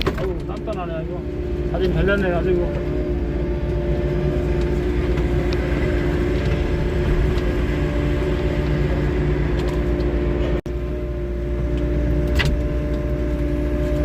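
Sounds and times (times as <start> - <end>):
diesel engine low drone: 0.0 - 14.0.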